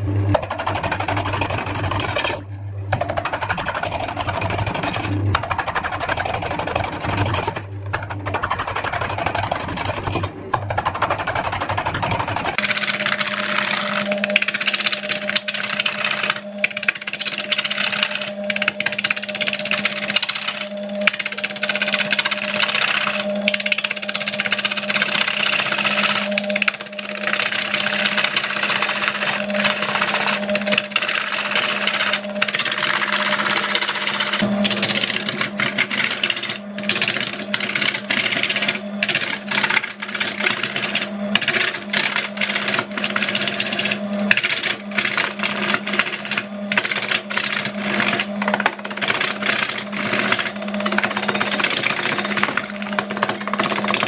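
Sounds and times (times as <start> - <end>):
lathe motor hum: 0.0 - 54.0
gouge scraping wood: 0.3 - 54.0.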